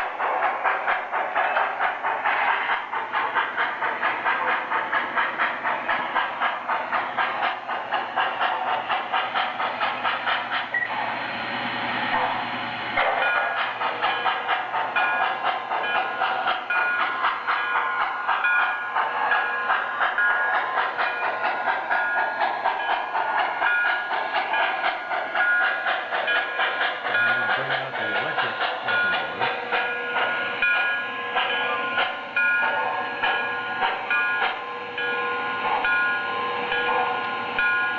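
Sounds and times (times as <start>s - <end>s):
model train steam chuffing: 0.0s - 37.9s.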